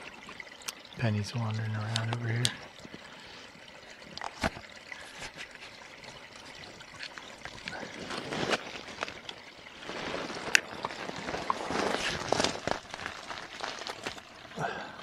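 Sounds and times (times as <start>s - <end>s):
stream trickling and gurgling: 0.0s - 15.0s.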